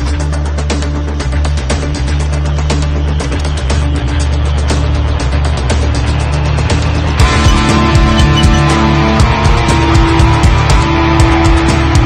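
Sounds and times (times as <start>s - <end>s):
music with fast beat: 0.0s - 12.0s.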